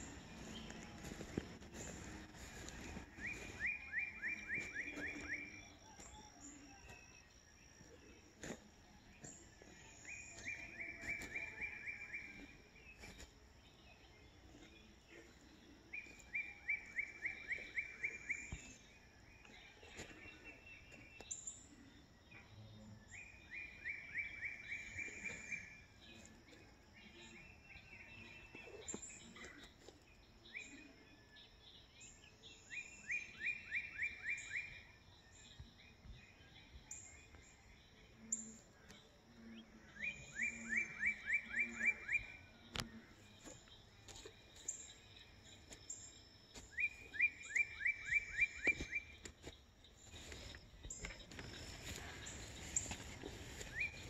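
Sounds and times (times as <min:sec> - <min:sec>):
faint birds calling: 0:00.0 - 0:54.0
songbird song: 0:00.0 - 0:54.0.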